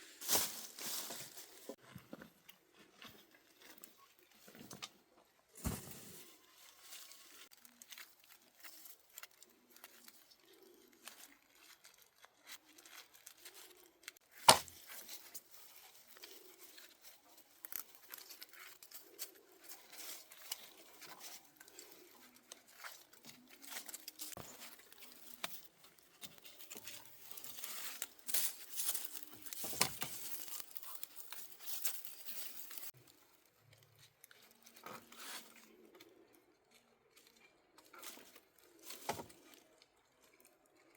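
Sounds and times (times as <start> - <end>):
dry plant material rustling: 0.0 - 1.8, 5.5 - 40.9.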